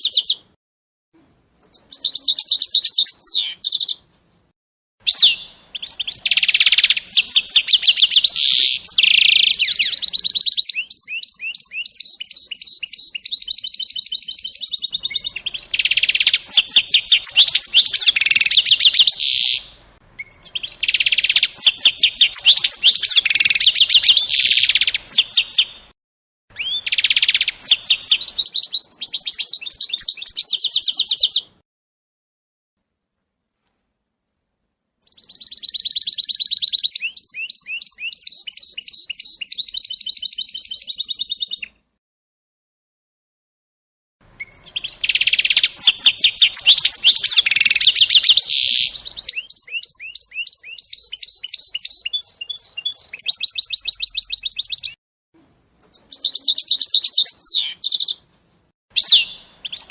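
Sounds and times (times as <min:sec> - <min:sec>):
songbird trilling and chirping: 0:00.0 - 0:00.4, 0:01.6 - 0:04.0, 0:05.1 - 0:25.9, 0:26.6 - 0:31.6, 0:35.0 - 0:41.8, 0:44.4 - 0:55.0, 0:55.8 - 0:58.2, 0:59.0 - 0:59.9.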